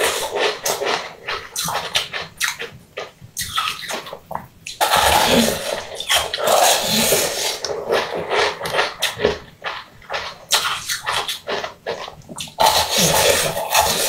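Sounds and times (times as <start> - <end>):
crunchy bites and chews: 0.0 - 14.0
wet slurping: 0.0 - 14.0.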